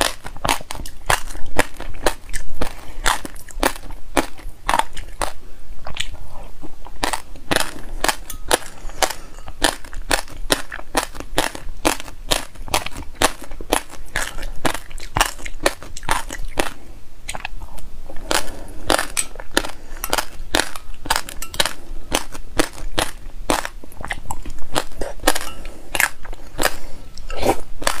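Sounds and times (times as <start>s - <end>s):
crunchy chewing: 0.0s - 28.0s.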